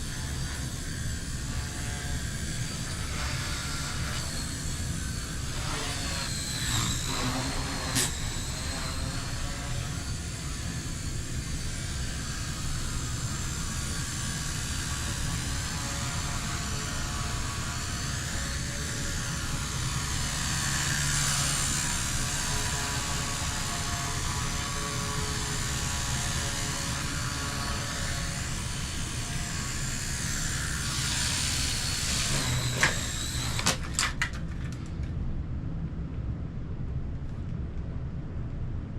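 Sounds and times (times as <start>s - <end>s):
toy helicopter motor whine: 0.0s - 34.8s.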